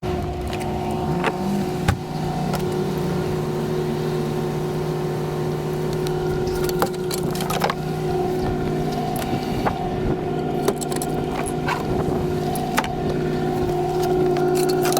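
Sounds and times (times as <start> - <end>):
vehicle engine running steadily: 0.0 - 14.9.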